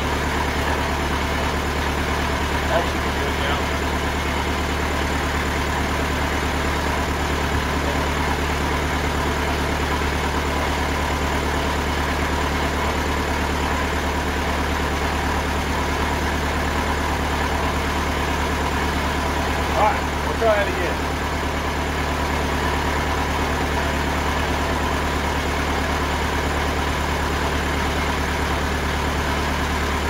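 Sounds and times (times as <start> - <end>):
sawmill engine idling: 0.0 - 30.0.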